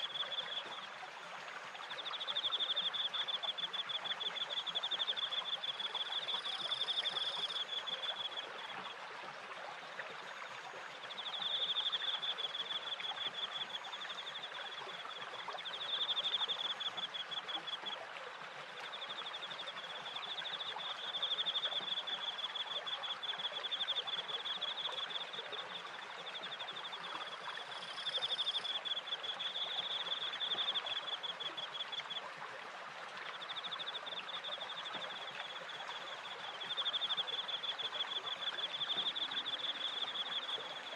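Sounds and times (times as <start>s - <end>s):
crickets chirping: 0.0s - 8.9s, 10.0s - 18.0s, 18.8s - 32.2s, 33.2s - 40.9s
stream running water: 0.0s - 40.9s.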